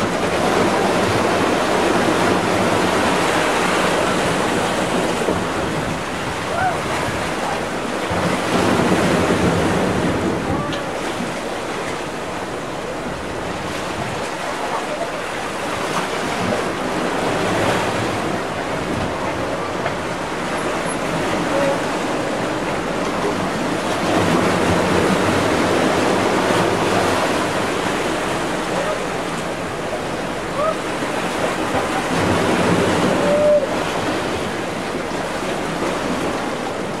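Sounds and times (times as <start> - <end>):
sea waves rushing: 0.0 - 37.0
seawater washing: 0.0 - 37.0.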